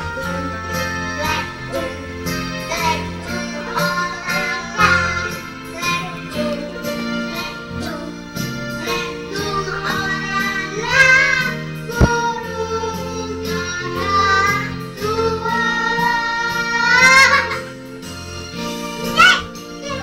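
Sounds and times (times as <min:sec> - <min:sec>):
child singing: 0:00.0 - 0:17.7, 0:18.9 - 0:20.0
instrumental backing music: 0:00.0 - 0:20.0.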